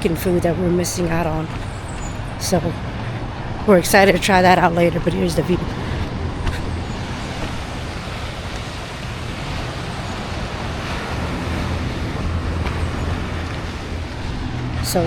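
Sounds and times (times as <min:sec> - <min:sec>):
low rumble: 0:00.0 - 0:15.0
ocean surf: 0:00.0 - 0:15.0
wind on microphone: 0:00.0 - 0:15.0.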